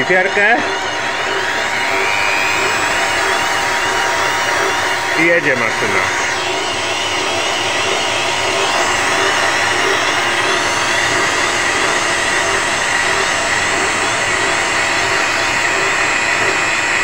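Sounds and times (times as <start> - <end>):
lathe turning: 0.0 - 17.0
rotary grinder whining: 0.0 - 17.0.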